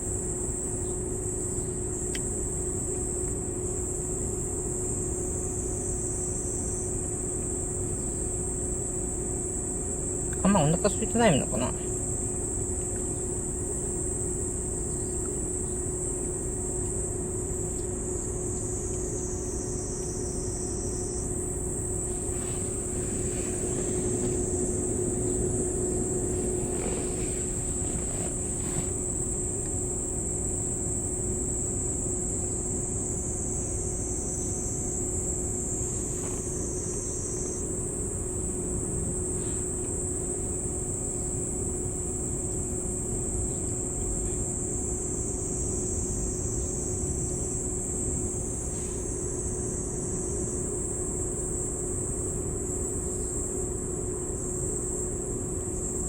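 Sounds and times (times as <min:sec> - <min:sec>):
high-pitched insect chorus: 0:00.0 - 0:56.0
low steady hum and rumble: 0:00.0 - 0:56.0
lower-pitched insect: 0:00.0 - 0:56.0.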